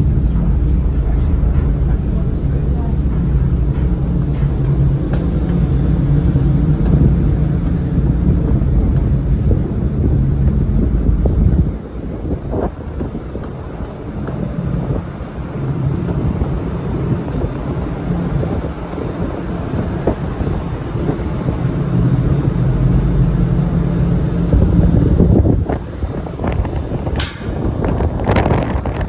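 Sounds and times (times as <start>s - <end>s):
ship engines rumbling: 0.0s - 29.0s.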